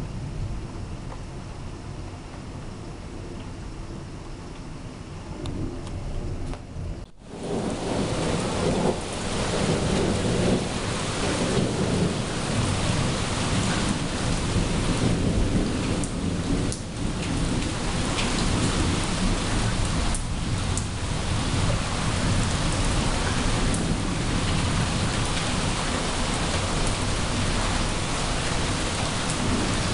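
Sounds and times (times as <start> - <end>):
rain falling: 0.0 - 29.9
thunder rumbling: 5.4 - 29.9.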